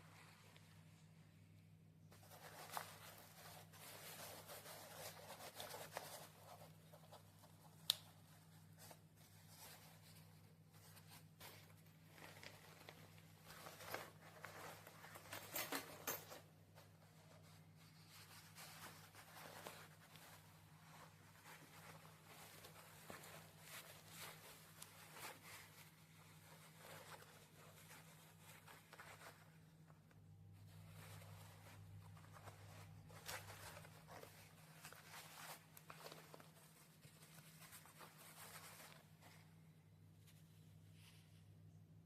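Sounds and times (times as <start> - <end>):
fabric backpack rustling: 2.1 - 29.9, 30.6 - 39.7.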